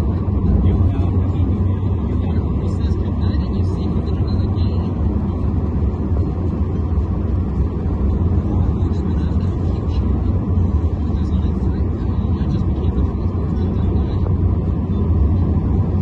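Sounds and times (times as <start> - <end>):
road and engine noise in vehicle: 0.0 - 16.0.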